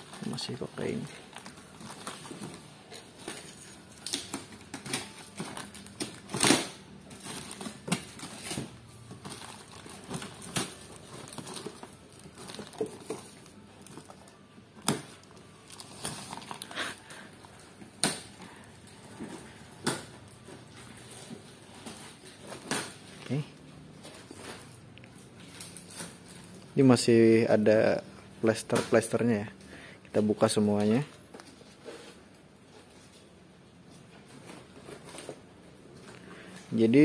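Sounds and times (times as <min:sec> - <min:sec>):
cardboard crinkling and scraping: 0:00.0 - 0:17.7, 0:20.4 - 0:26.6, 0:30.8 - 0:37.0.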